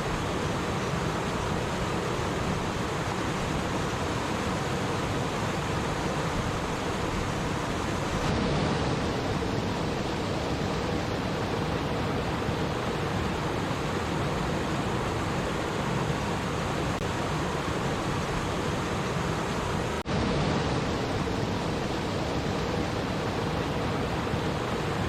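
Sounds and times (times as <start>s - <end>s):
stream water babbling: 0.0s - 25.0s.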